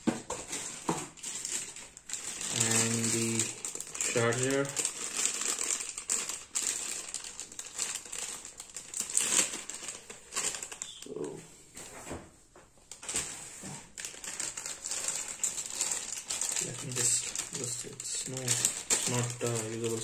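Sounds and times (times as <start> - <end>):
plastic bag crinkling: 0.2 - 11.4, 12.9 - 20.0.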